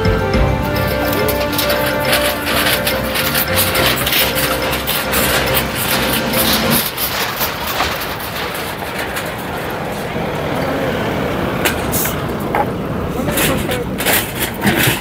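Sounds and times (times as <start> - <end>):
background voices: 0.0 - 15.0
traffic and vehicle engines: 0.0 - 15.0.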